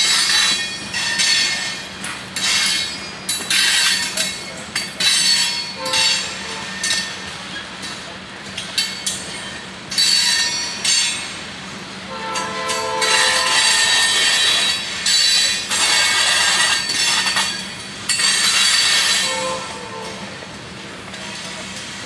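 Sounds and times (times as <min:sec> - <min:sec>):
train wheels squealing: 0:00.0 - 0:08.0, 0:08.8 - 0:11.3, 0:13.0 - 0:20.3.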